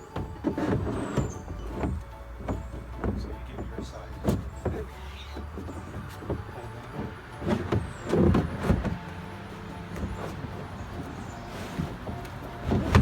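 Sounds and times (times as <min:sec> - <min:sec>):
plastic panels knocking and scraping: 0:00.0 - 0:13.0.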